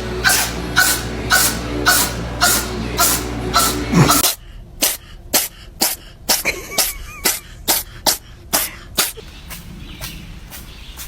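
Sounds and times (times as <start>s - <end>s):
cat sneezing: 0.2s - 9.2s.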